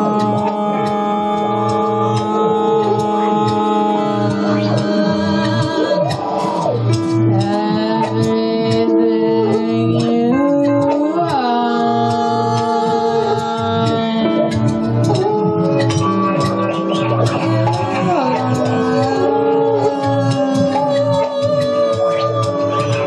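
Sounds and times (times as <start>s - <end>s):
electric guitar: 0.0s - 23.0s
steady low beat: 0.0s - 23.0s.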